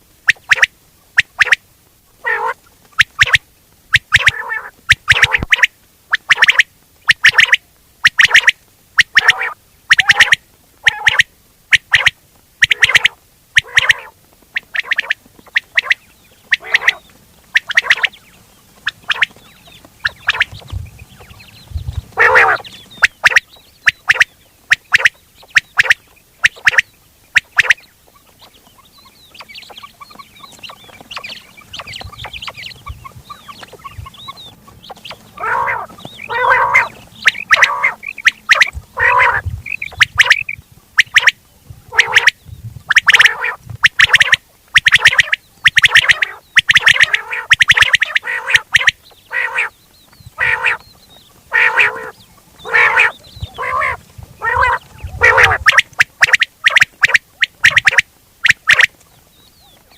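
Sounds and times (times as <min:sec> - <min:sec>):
quail calls: 0:00.2 - 0:01.6, 0:02.2 - 0:59.9
fast twittering chatter: 0:04.0 - 0:58.9.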